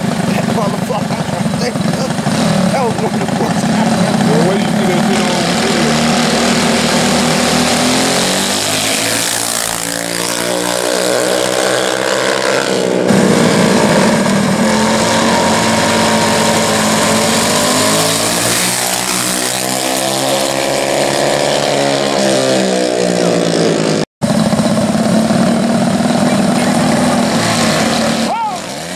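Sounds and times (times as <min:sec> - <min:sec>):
mini bike engines accelerating: 0:00.0 - 0:28.9.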